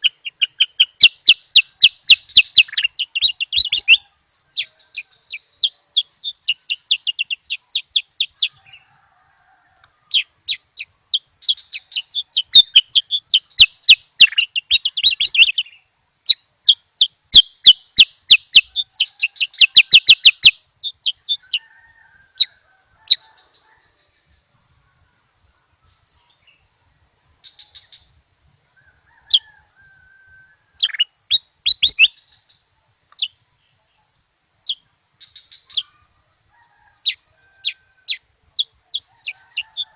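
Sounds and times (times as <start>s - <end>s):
bird chirping: 0.0s - 9.4s, 10.0s - 39.9s.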